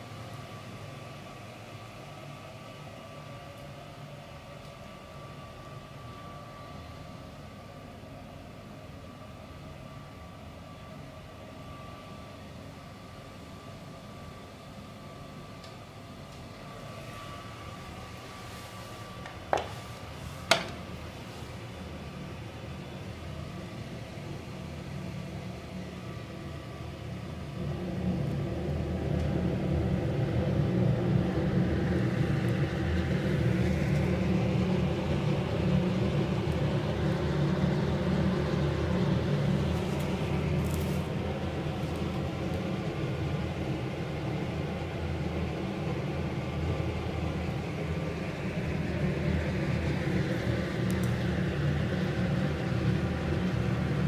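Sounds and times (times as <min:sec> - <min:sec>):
boiler flame roaring: 0:00.0 - 0:54.0.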